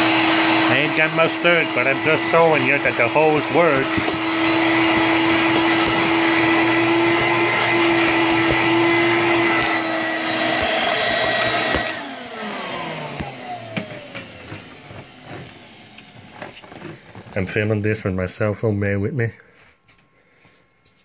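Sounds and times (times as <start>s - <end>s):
vacuum cleaner motor running: 0.0s - 17.9s.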